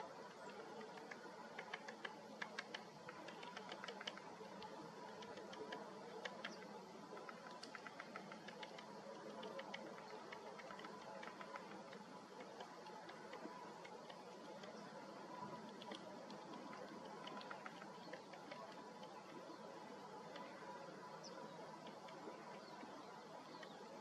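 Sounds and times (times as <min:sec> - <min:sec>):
woodpecker tapping on cone: 0:00.2 - 0:20.6.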